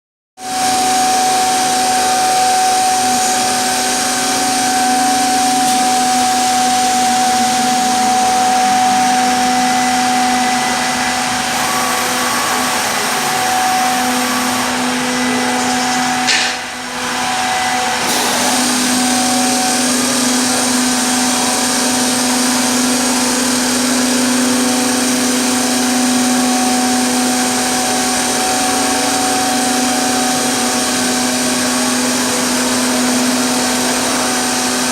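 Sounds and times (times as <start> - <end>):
woodworking machine humming and whining: 0.4 - 34.9.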